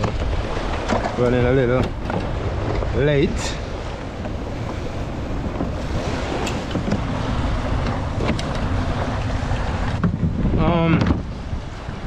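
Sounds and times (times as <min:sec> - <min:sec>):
small waves washing on sand: 0:00.0 - 0:12.0
wind on microphone: 0:00.0 - 0:12.0.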